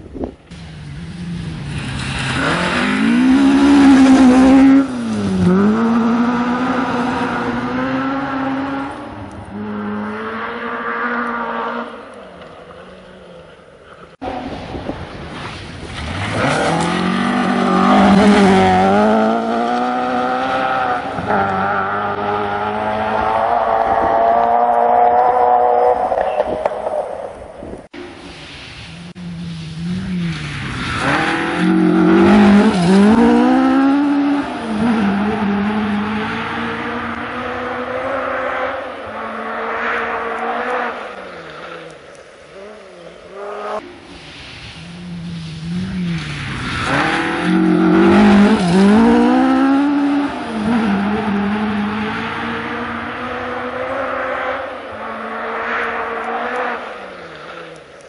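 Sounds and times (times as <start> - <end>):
rally car engine revving: 0.5 - 12.6, 15.3 - 27.5, 29.1 - 43.8, 44.4 - 58.0.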